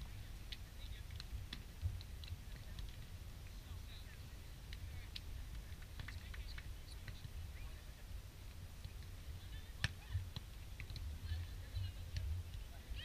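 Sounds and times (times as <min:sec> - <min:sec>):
faint distant voices: 0:00.0 - 0:13.0.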